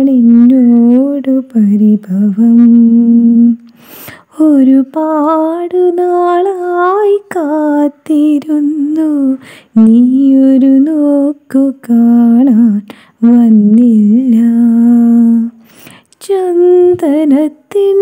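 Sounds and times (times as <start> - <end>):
woman singing slow melody: 0.0 - 18.0.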